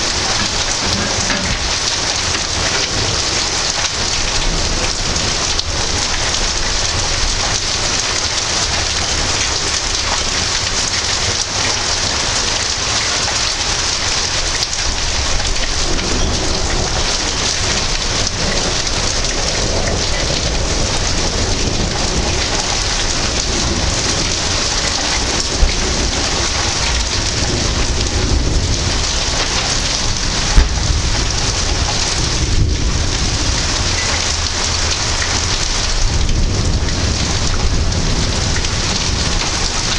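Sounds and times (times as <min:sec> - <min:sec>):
deep thunder rumbling: 0:00.0 - 0:39.9
rain pouring on hard surfaces: 0:00.0 - 0:39.9.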